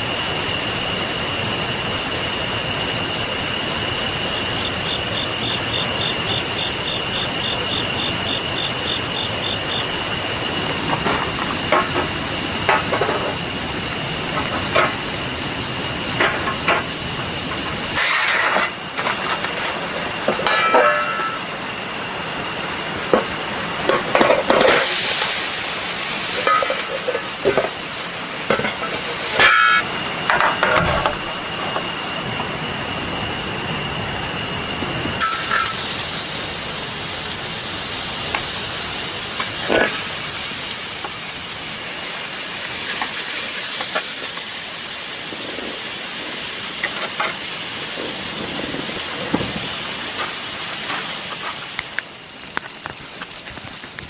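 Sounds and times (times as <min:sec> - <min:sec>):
food sizzling over campfire: 0:00.0 - 0:30.2, 0:35.2 - 0:54.0.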